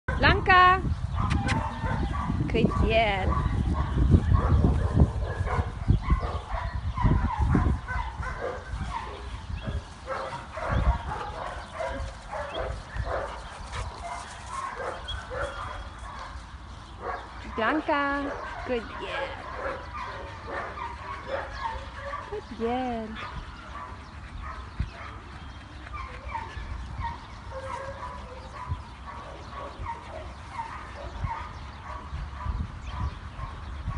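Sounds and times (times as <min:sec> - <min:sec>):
wind rumble on microphone: 0:00.1 - 0:33.9.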